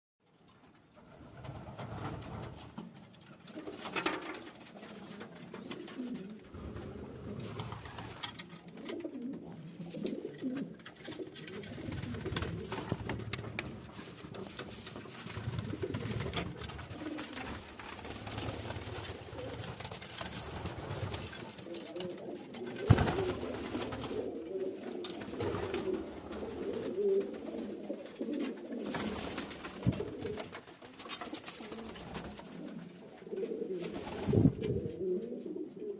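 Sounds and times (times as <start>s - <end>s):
pigeons cooing: 3.5s - 35.9s.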